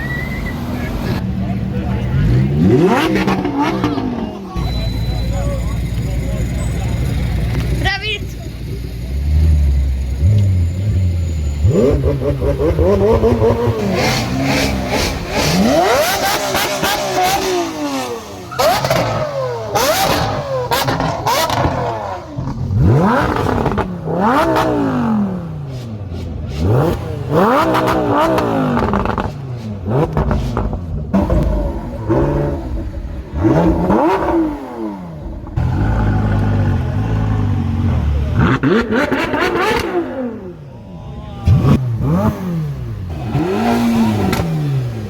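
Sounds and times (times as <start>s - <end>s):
engine revving through gears: 2.1s - 4.6s, 9.1s - 40.6s, 41.4s - 45.0s.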